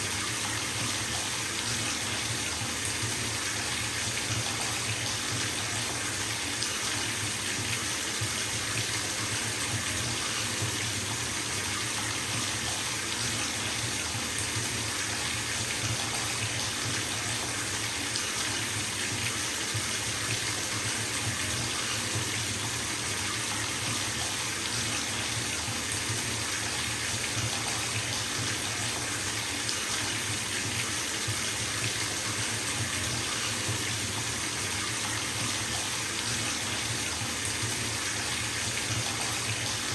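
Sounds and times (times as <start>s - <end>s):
water running into bathtub: 0.0s - 39.9s.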